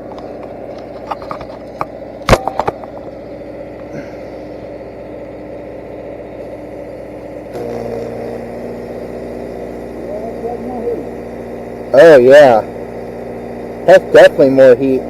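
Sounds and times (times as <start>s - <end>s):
steady hum: 0.0s - 15.0s
welding machine engine running: 0.0s - 15.0s.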